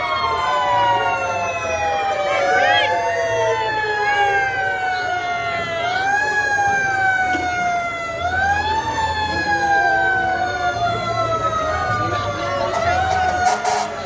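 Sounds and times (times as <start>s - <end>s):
fire truck siren wailing: 0.0s - 14.0s.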